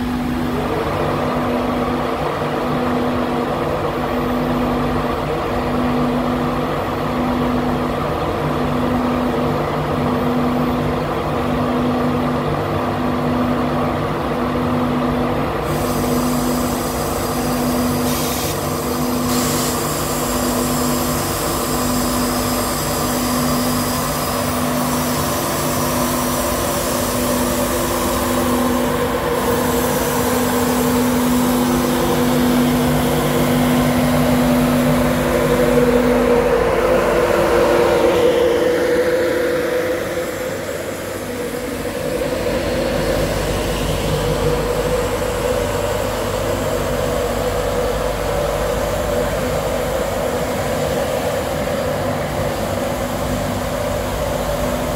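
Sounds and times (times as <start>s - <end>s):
electric locomotive hum: 0.0s - 54.9s.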